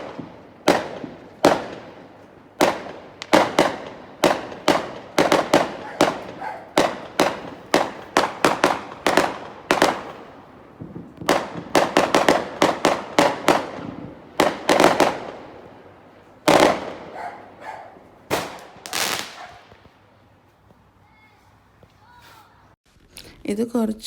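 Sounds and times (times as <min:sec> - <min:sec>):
fireworks bangs: 0:00.0 - 0:20.3.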